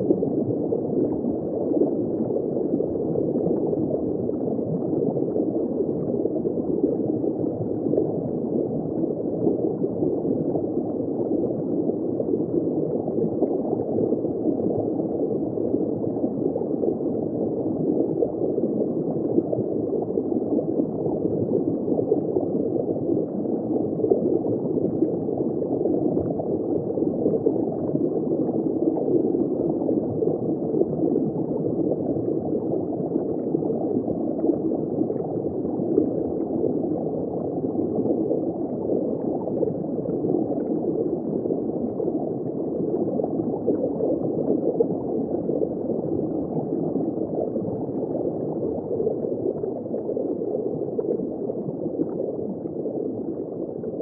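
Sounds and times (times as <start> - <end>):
underwater bubbling: 0.0 - 54.0.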